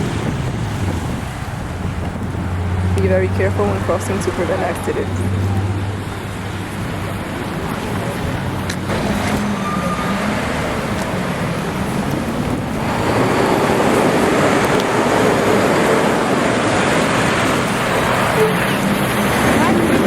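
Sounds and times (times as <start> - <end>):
cars passing: 0.0 - 20.0.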